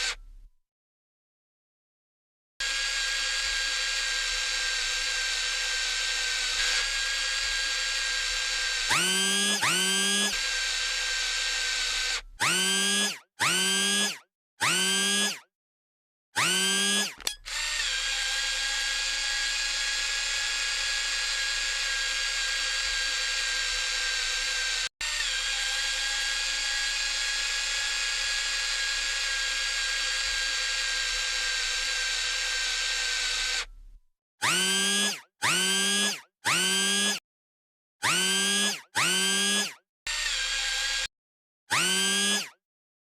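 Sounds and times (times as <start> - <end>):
small electric motor whirring: 0.0 - 0.5, 2.6 - 15.5, 16.4 - 37.2, 38.0 - 41.1, 41.7 - 42.6.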